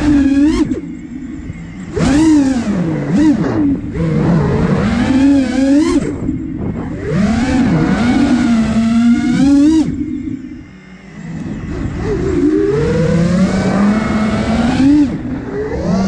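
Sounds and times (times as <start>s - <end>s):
drone motors and propellers buzzing: 0.0s - 16.0s.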